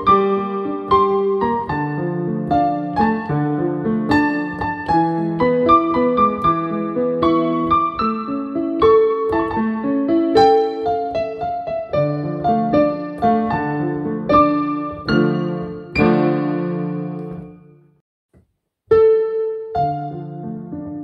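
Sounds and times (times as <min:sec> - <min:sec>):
digital piano melody: 0:00.0 - 0:18.0, 0:18.9 - 0:21.0.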